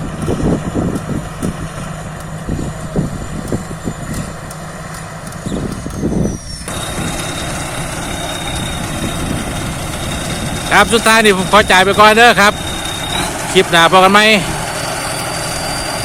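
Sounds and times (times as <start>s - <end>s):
combine harvester engine drone: 0.0s - 16.0s
thin high whine: 2.5s - 16.0s.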